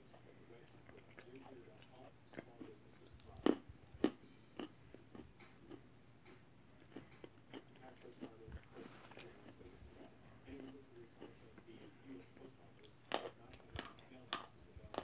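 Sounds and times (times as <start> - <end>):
chewing chalk crunches: 0.6 - 5.8, 6.8 - 15.0.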